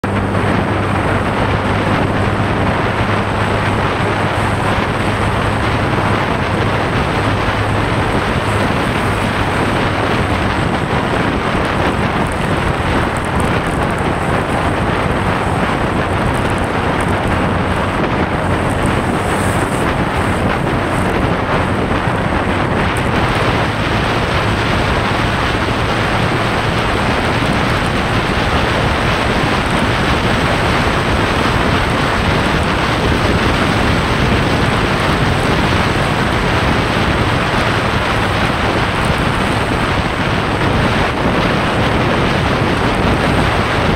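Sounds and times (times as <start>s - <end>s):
low motorcycle engine hum: 0.0s - 43.9s
wind rushing over microphone: 0.0s - 43.9s.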